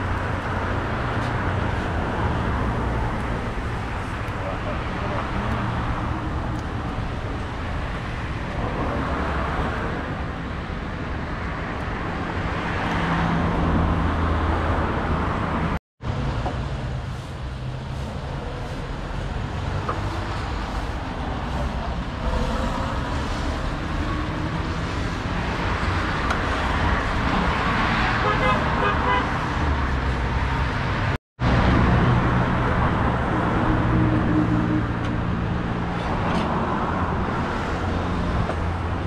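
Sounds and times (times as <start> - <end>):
road traffic hum and hiss: 0.0 - 39.0.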